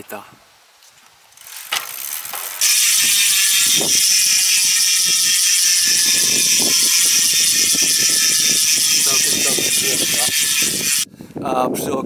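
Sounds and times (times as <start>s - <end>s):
bicycle freehub ratchet buzz: 1.4s - 11.1s.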